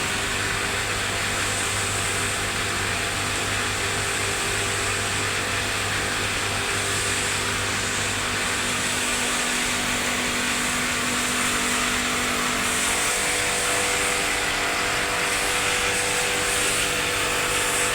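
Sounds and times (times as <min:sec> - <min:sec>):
broad machine hiss: 0:00.4 - 0:17.9.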